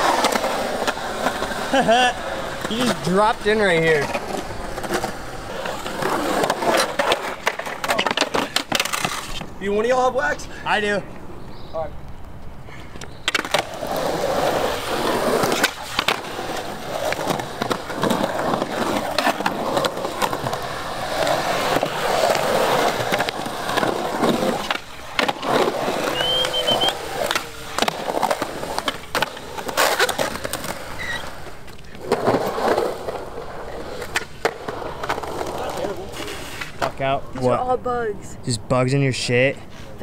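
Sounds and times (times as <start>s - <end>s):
skateboards knocking on ground: 0.0s - 9.5s, 13.0s - 37.1s
skateboard wheels rolling on concrete: 0.0s - 40.0s.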